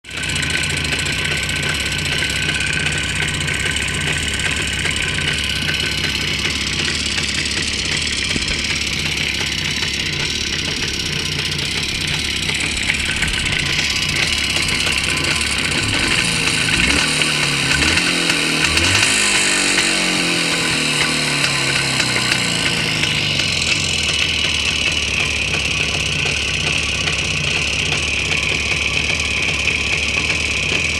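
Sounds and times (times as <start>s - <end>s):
rapid engine knock: 0.0s - 30.9s
two-stroke motorcycle engine running: 0.0s - 30.9s.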